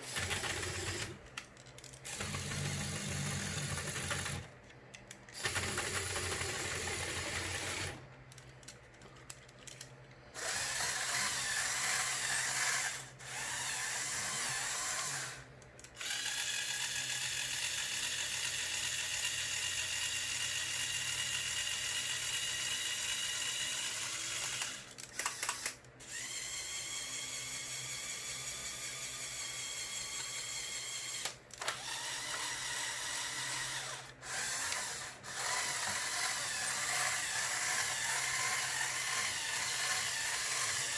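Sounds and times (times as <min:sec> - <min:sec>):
small electric motors whirring: 0:00.0 - 0:01.2, 0:02.0 - 0:04.5, 0:05.3 - 0:08.0, 0:09.7 - 0:40.9.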